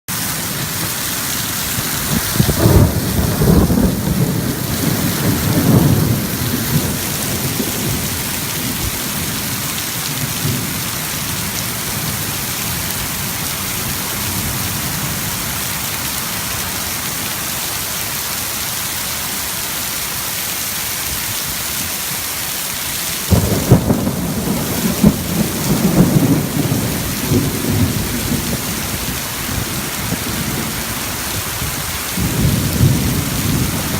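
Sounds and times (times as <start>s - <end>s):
heavy rain hissing: 0.1s - 33.9s.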